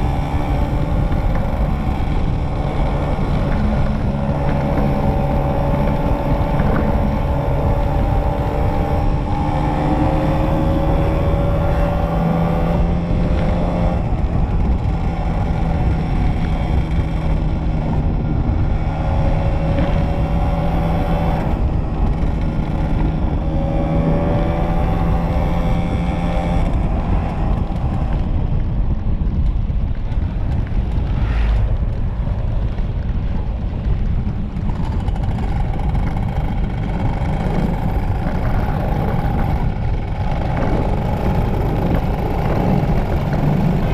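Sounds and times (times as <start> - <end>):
two-stroke motorcycle engine: 0.0 - 31.2, 32.5 - 43.9
wind noise on microphone: 0.0 - 43.9.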